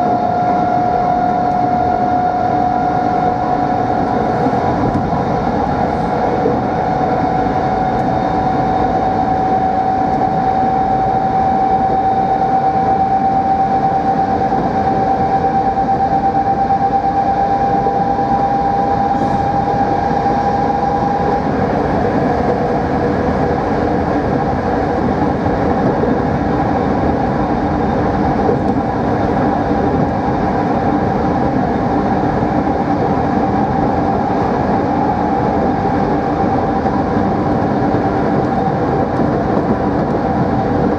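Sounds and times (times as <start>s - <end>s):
electric train rumble: 0.0s - 40.9s
train motor whine: 0.0s - 40.9s.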